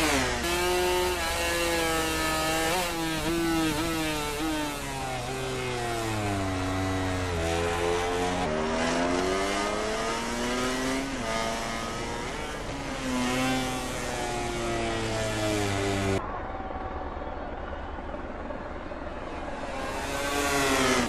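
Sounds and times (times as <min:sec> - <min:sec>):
motorcycle engine at high revs: 0:00.0 - 0:16.2, 0:19.6 - 0:21.0.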